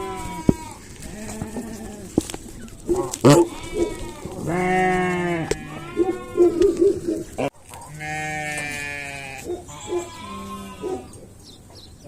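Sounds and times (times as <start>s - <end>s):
sheep bleating: 0.0s - 6.8s, 7.4s - 11.2s.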